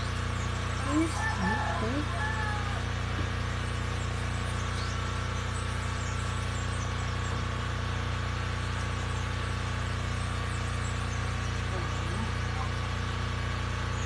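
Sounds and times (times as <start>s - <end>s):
low humming drone: 0.0s - 14.0s.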